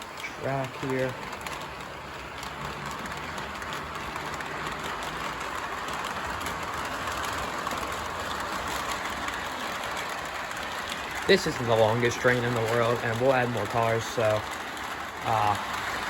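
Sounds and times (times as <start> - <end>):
model train rolling on track: 0.0 - 16.0
wheel and rail noise: 0.0 - 16.0.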